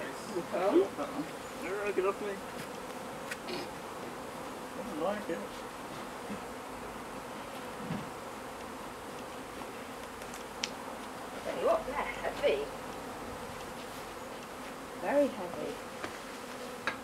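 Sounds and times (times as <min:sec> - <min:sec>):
bees humming: 0:00.0 - 0:17.0.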